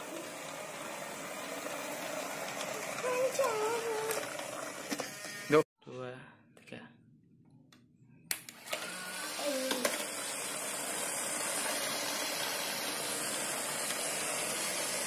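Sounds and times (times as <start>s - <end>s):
small electric motor whirring: 0.0s - 5.6s, 8.5s - 15.0s.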